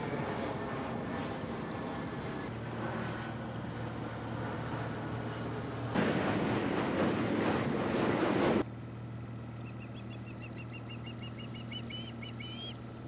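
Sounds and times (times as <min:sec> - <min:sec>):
jet airliner passing overhead: 0:00.0 - 0:13.0
low hum: 0:00.0 - 0:13.0.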